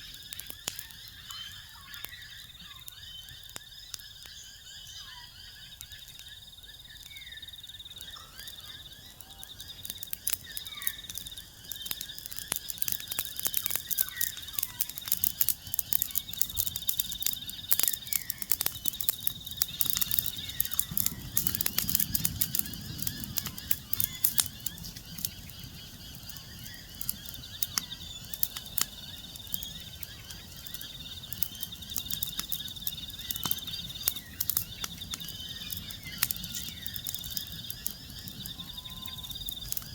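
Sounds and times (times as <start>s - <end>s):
wood fire crackling and popping: 0.0s - 4.9s, 5.6s - 39.9s
high insect trill: 0.0s - 39.9s.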